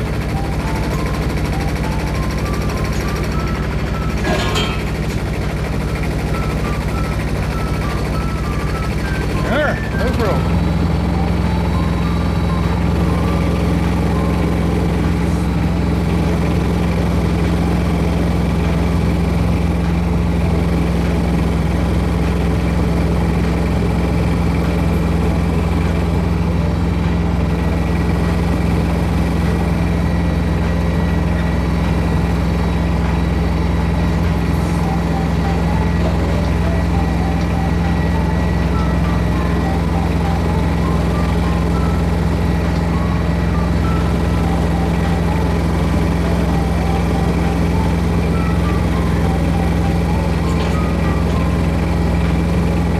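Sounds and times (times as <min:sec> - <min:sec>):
old tractor engine running: 0:00.0 - 0:52.9.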